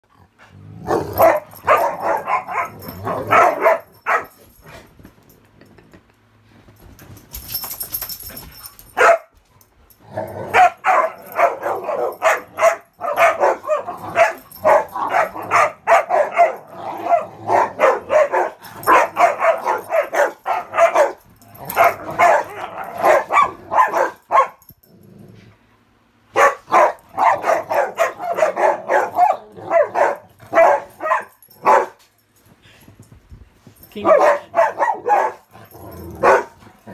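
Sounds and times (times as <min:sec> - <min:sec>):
dogs barking in play: 0:00.3 - 0:05.0, 0:08.2 - 0:24.9, 0:25.6 - 0:32.4, 0:33.7 - 0:36.9.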